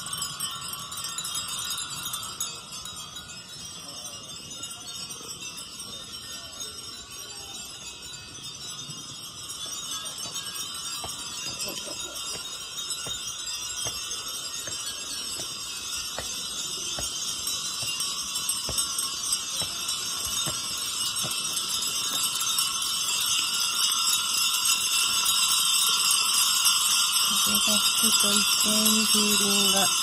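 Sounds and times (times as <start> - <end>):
wind chimes tinkling: 0.0 - 30.0.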